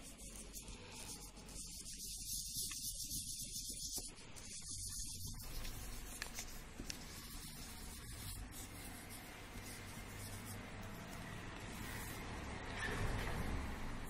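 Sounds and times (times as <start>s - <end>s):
wax crayon rubbing on paper: 0.0s - 12.3s.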